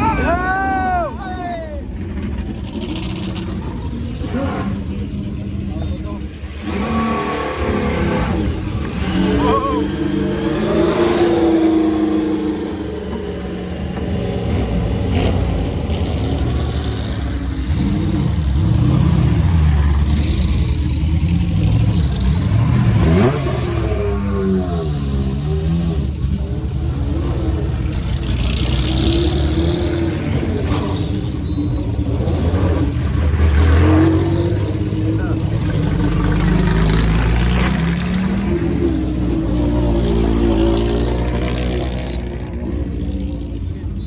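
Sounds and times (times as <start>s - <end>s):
racing car engines revving: 0.0s - 44.0s.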